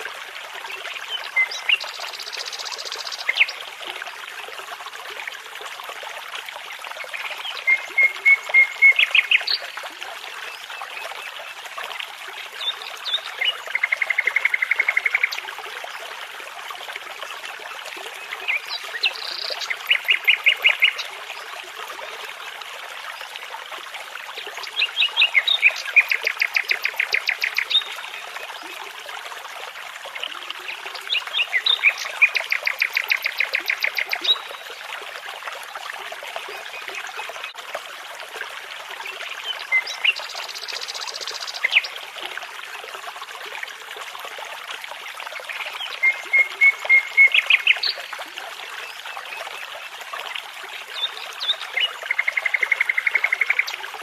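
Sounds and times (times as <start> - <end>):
babbling brook: 0.0 - 54.0.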